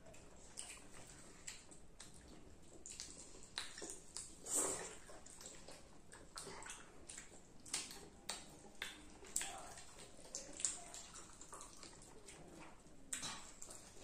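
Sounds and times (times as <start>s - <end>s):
children chewing popcorn: 0.0s - 14.0s.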